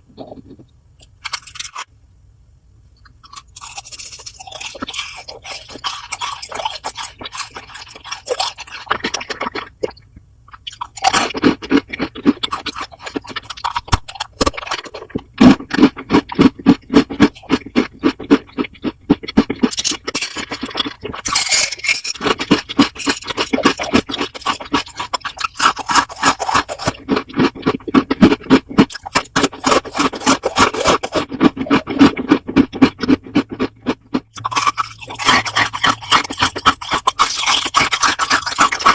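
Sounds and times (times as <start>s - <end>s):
chewing crunchy food: 0.2s - 1.9s, 3.0s - 38.9s.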